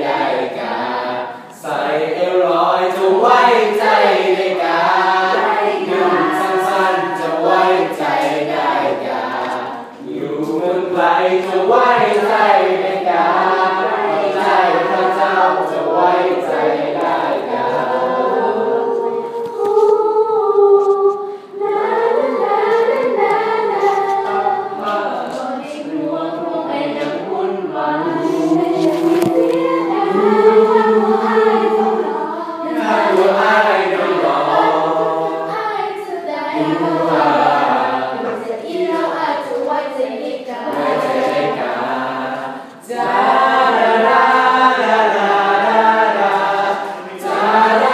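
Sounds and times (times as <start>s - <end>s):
choir singing in harmony: 0.0s - 47.9s.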